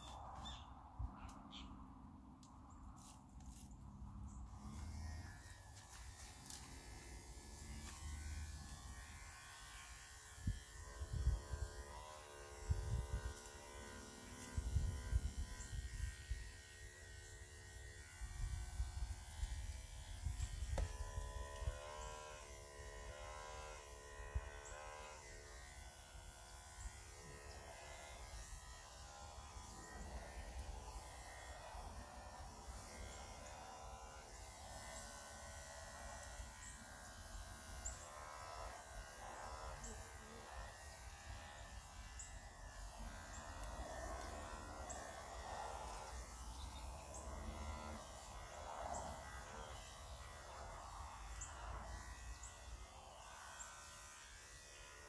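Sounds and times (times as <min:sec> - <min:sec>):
electric clippers buzzing: 0:00.0 - 0:55.0.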